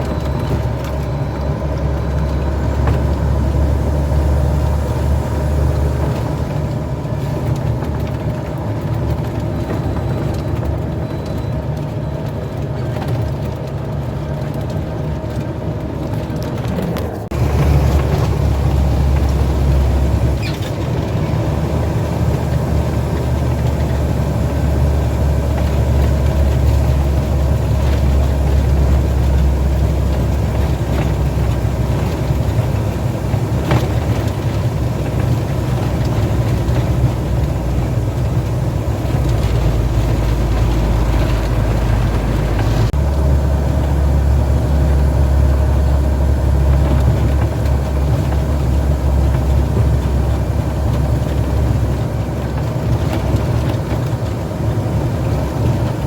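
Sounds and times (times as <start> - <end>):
road noise: 0.0 - 56.0
truck engine droning: 0.0 - 56.0.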